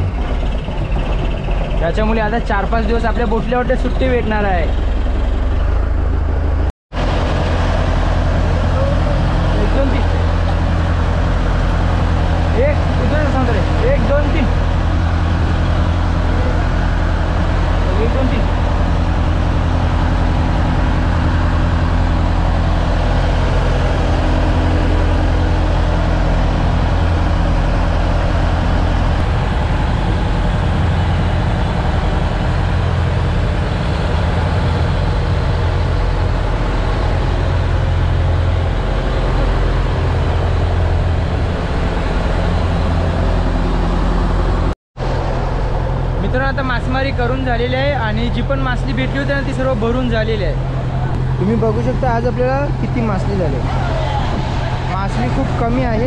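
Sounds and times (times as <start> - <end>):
boat engine drone: 0.0 - 56.0
wind: 0.0 - 56.0.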